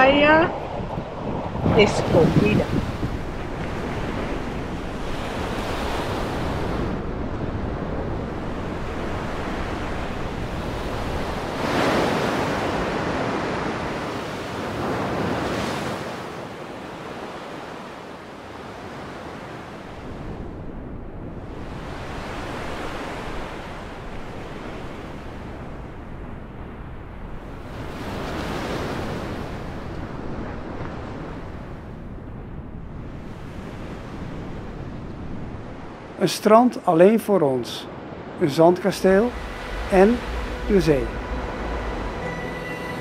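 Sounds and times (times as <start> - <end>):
wind rumbling on microphone: 0.0 - 17.0, 18.9 - 36.2, 39.0 - 43.0
waves breaking on a beach: 0.0 - 43.0.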